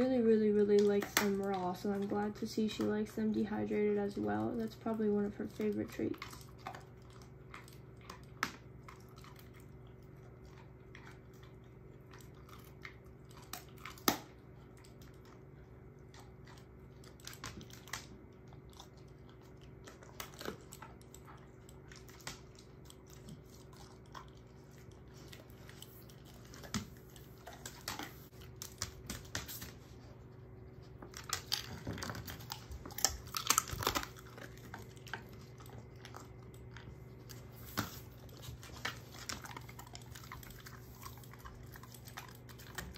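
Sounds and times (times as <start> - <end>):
dog chewing and crunching bone: 0.0 - 42.9.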